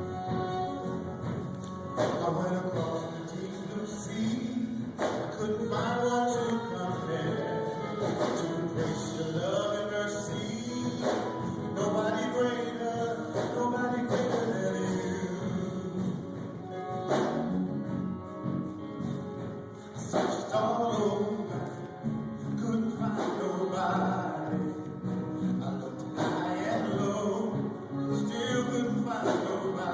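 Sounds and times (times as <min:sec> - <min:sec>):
gospel singing with instruments: 0:00.0 - 0:29.9.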